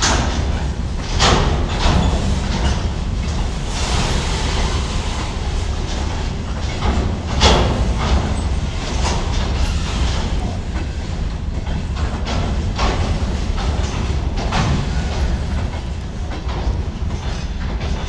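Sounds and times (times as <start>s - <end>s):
low rumble of freight wagons: 0.0s - 18.0s
wagon wheels clacking over rail joints: 0.0s - 18.0s.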